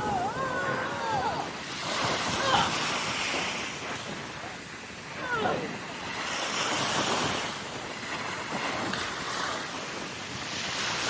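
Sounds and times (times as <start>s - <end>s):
waves washing onto shore: 0.0s - 11.0s
wind blowing: 0.0s - 11.0s.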